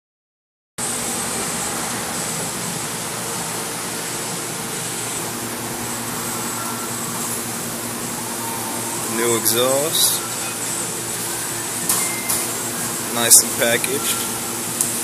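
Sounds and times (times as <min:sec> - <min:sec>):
faint hum: 0:00.8 - 0:15.0
fan-like rushing noise: 0:00.8 - 0:15.0.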